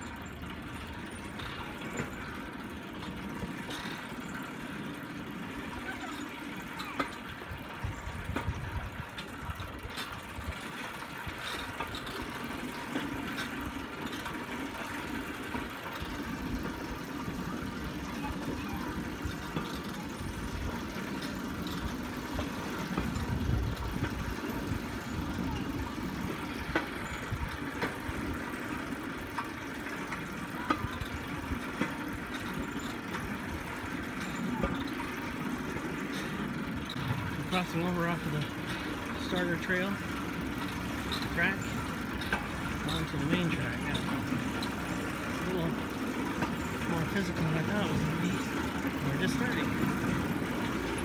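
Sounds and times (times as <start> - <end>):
steel wheels rolling on rail track: 0.0 - 51.0.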